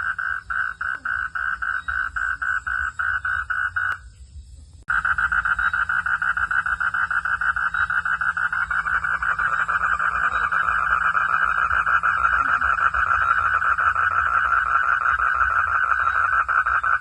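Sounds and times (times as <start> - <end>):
frogs calling in chorus: 0.0 - 4.1, 4.9 - 17.0.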